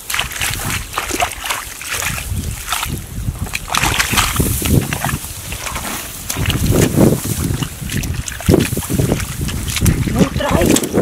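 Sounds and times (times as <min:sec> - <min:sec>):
bare feet squelching in mud: 0:00.0 - 0:11.0
grass swishing against legs: 0:00.0 - 0:11.0.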